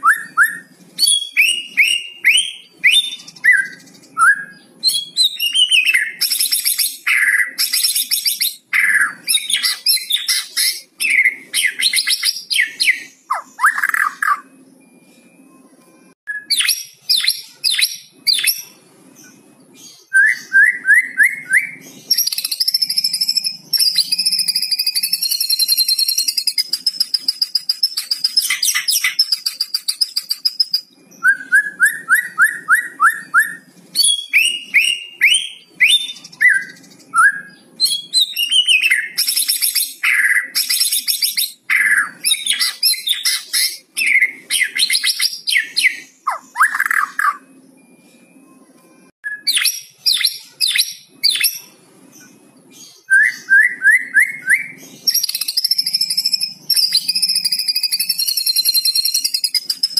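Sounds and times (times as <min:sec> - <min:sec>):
bird singing: 0:00.0 - 0:59.9.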